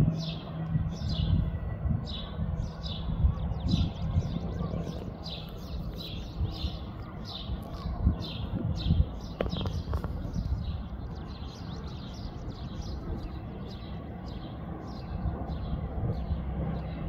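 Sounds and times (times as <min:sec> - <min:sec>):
small bird chirping: 0:02.2 - 0:16.3.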